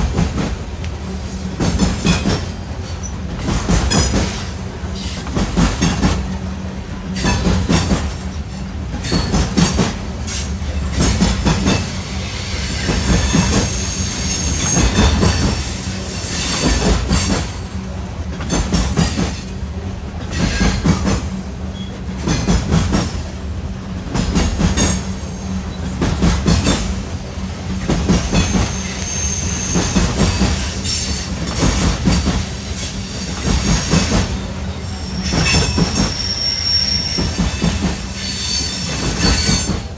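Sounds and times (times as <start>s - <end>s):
freight train wheels clattering: 0.0s - 39.9s
train wheel squeal: 0.9s - 39.9s.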